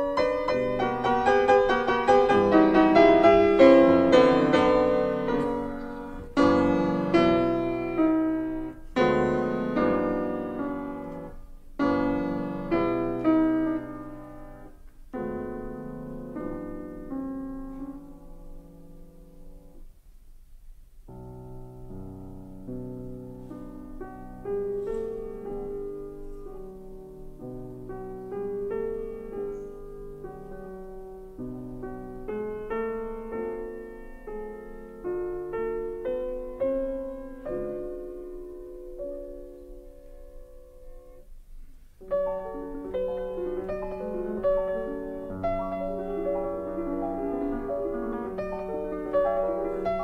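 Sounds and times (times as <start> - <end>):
slow piano music: 0.0 - 50.0.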